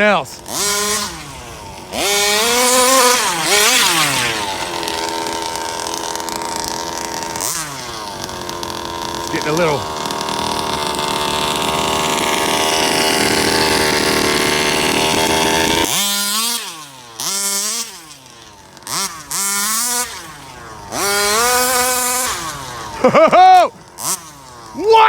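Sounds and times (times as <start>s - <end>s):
two-stroke engine revving: 0.0s - 25.0s.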